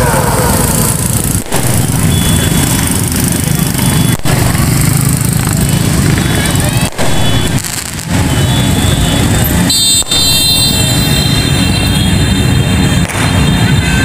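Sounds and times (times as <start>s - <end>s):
motorbike and car engines: 0.0s - 14.0s.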